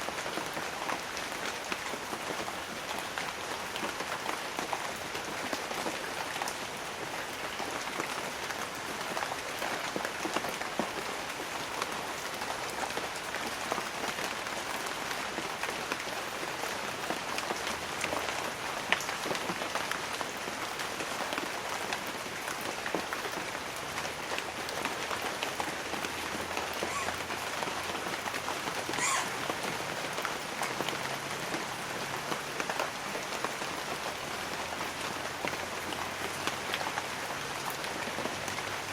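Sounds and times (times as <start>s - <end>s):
light rain on leaves: 0.0s - 38.9s.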